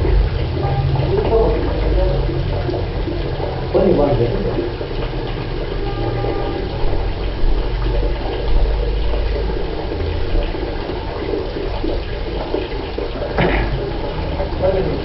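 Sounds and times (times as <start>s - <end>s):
water running into bucket: 0.0s - 15.0s.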